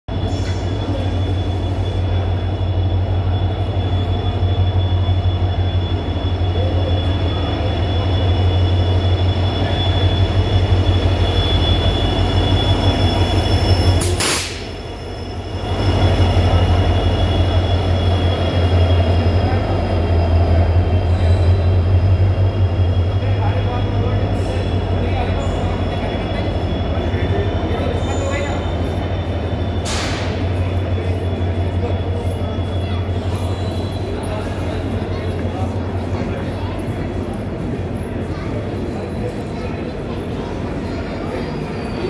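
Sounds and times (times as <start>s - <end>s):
diesel locomotive engine drone: 0.1s - 42.0s
train wheel and brake squeal: 0.1s - 42.0s.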